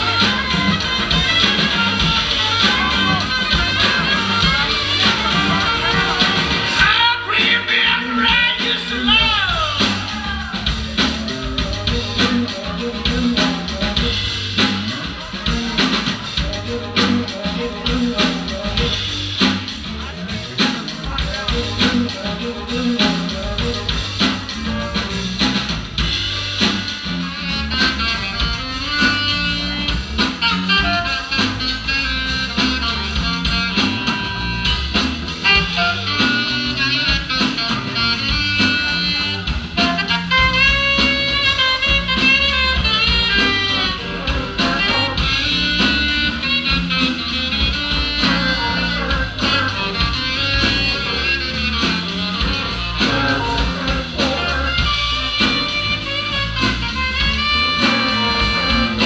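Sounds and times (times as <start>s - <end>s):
guitar melody: 0.0s - 18.9s, 20.0s - 59.0s
bass and rhythm section: 0.0s - 59.0s
wind instrument melody: 0.0s - 59.0s.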